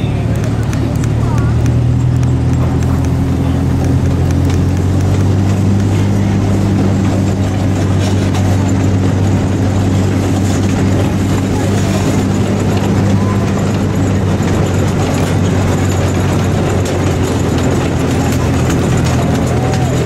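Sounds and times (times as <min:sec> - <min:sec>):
low train engine drone: 0:00.0 - 0:20.0.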